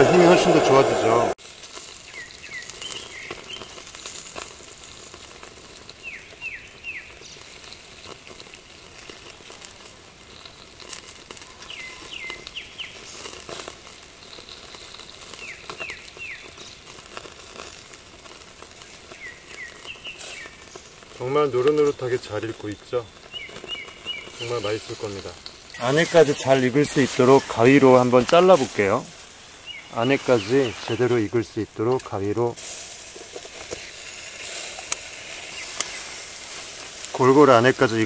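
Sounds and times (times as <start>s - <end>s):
chicken sizzling on a grill: 0.0s - 38.0s
coals crackling: 0.0s - 38.0s.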